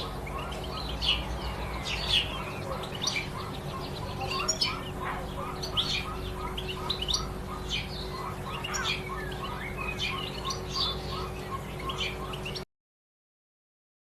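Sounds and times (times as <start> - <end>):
faint steady hum: 0.0 - 12.6
small birds chirping chorus: 0.0 - 12.7.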